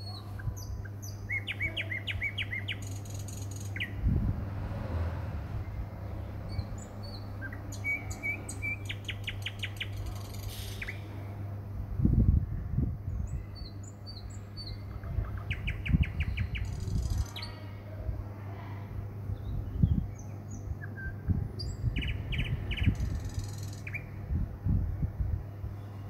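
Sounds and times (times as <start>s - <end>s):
small birds chirping: 0.0s - 4.1s, 5.5s - 11.4s, 13.0s - 24.4s
steady low hum: 0.0s - 26.0s.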